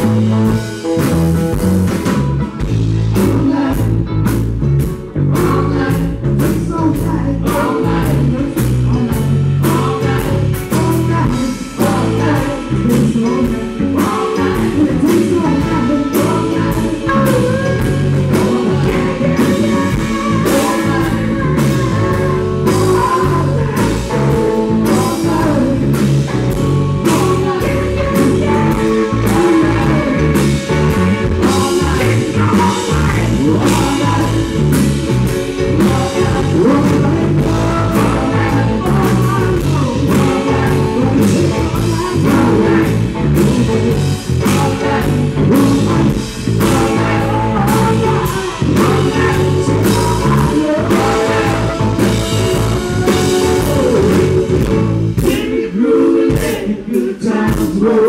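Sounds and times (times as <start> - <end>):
live blues-rock band playing: 0.0 - 58.0.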